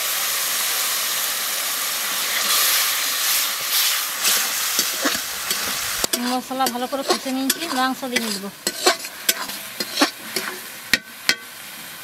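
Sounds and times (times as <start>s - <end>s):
water sizzling in hot oil: 0.0s - 12.0s.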